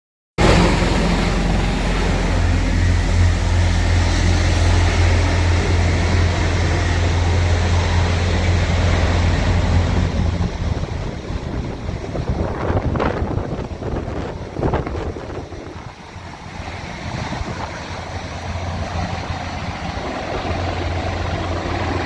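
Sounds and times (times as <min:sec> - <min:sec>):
aircraft engines droning: 0:00.4 - 0:22.0
wind on microphone: 0:00.4 - 0:22.0.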